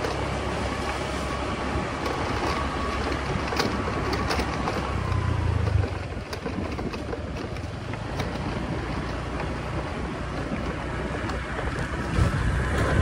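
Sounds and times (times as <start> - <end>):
motorcycle engine droning: 0.0 - 13.0
wind noise on microphone: 0.0 - 13.0.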